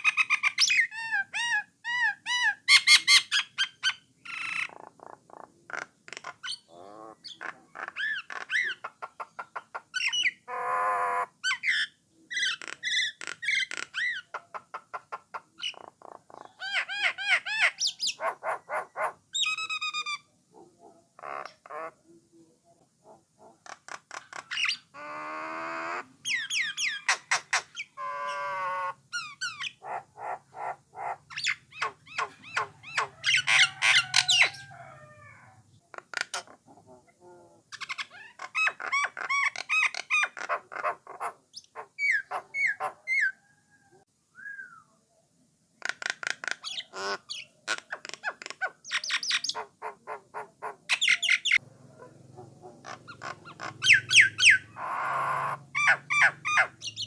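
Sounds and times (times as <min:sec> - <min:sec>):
bird singing varied song: 0:00.0 - 0:35.0, 0:37.2 - 0:43.4, 0:45.9 - 0:57.0.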